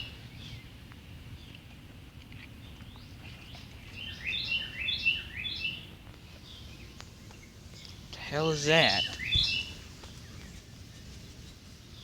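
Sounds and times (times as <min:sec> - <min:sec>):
bird singing: 0:00.0 - 0:01.7, 0:02.4 - 0:12.0.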